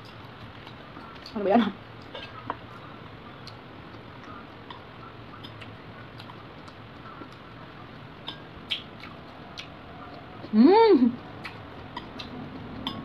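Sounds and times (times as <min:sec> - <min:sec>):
chewing: 0:00.0 - 0:01.4, 0:02.0 - 0:13.0
low room hum: 0:00.0 - 0:13.0.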